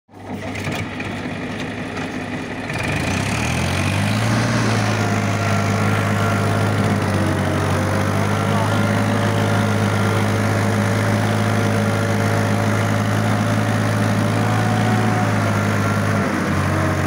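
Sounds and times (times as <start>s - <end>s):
tractor diesel engine revving: 0.1s - 17.0s.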